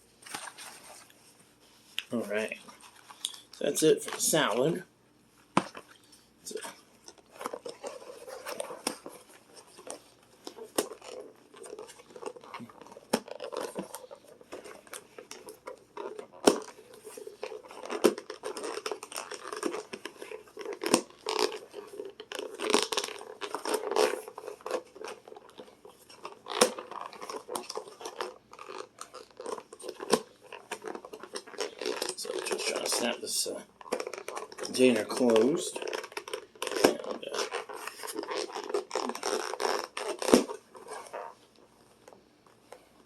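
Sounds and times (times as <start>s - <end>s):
plastic container crinkling and snapping: 5.6s - 41.4s.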